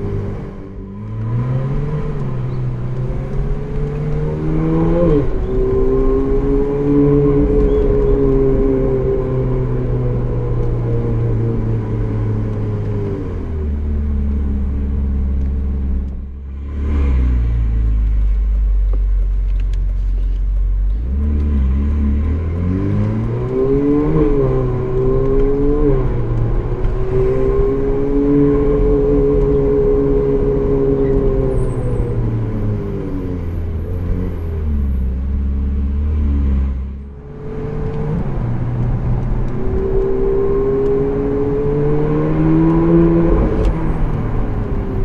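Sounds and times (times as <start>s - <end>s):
car engine driving at low speed: 0.0s - 45.0s.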